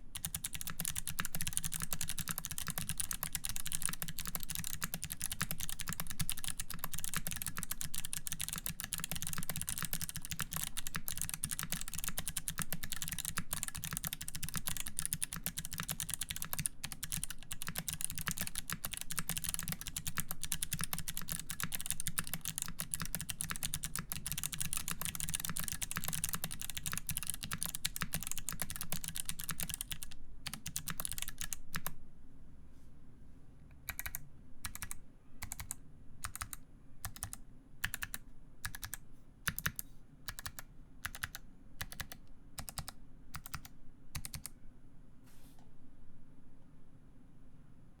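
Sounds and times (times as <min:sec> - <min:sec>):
mechanical keyboard typing: 0:00.2 - 0:32.0, 0:33.9 - 0:44.5.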